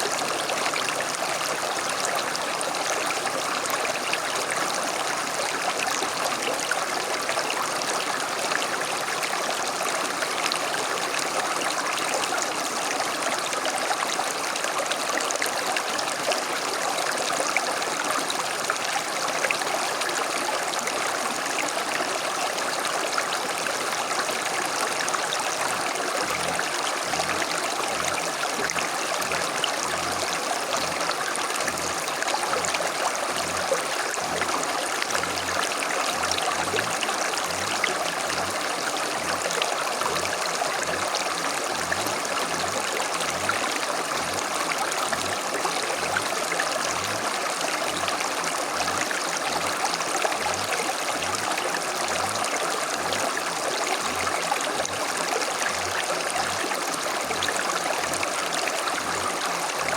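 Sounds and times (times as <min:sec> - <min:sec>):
creek babbling over stones: 0:00.0 - 0:59.9.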